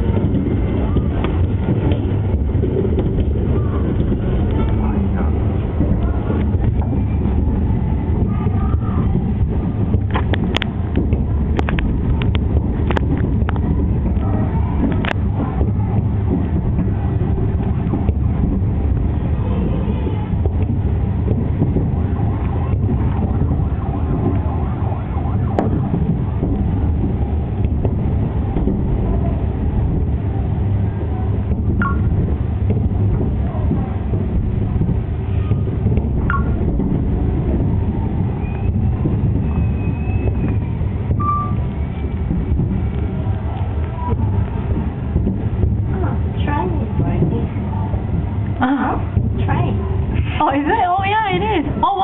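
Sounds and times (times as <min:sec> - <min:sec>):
muffled fireworks barrage rumble: 0:00.0 - 0:52.0.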